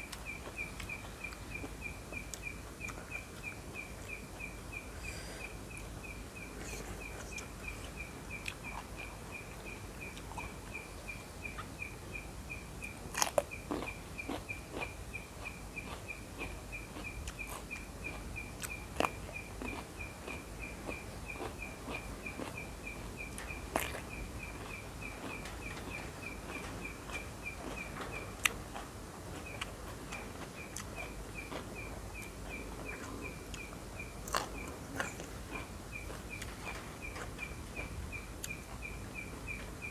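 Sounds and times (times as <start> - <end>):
eating clicks and crunches: 0.0 - 4.6, 5.7 - 39.8
low background hum: 0.0 - 39.9.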